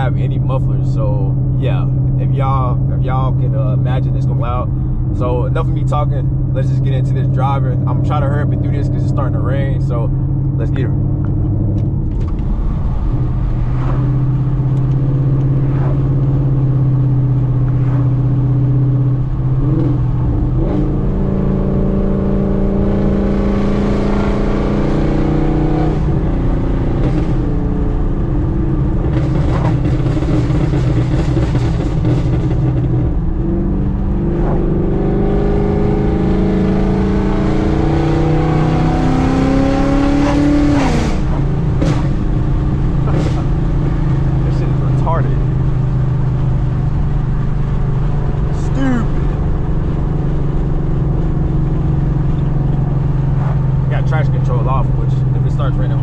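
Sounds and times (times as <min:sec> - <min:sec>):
car exhaust note while driving: 0:00.0 - 0:56.0.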